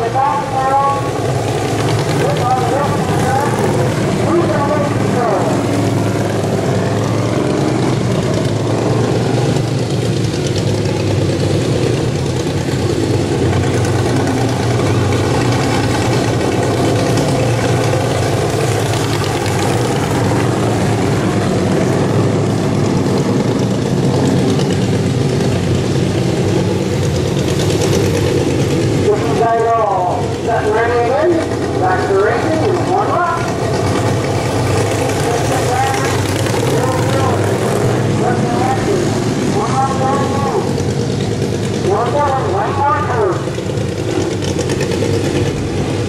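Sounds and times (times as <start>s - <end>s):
lawn mower engines racing: 0.0s - 46.0s.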